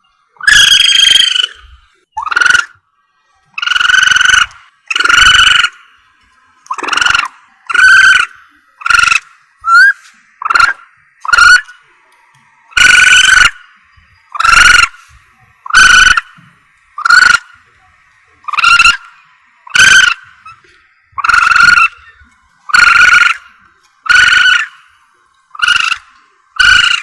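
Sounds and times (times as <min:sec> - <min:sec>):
civet calling: 0:00.0 - 0:27.0.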